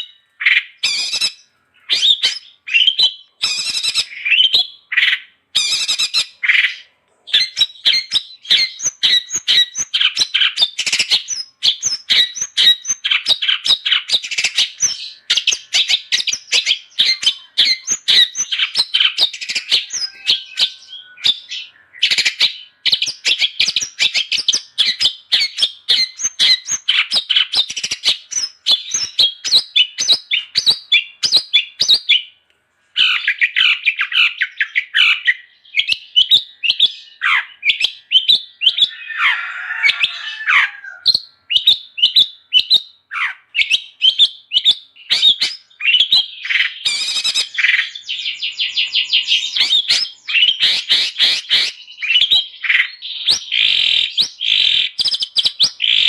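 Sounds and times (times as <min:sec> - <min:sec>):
bird chattering chirps and squawks: 0:00.0 - 0:32.1, 0:37.2 - 0:56.0.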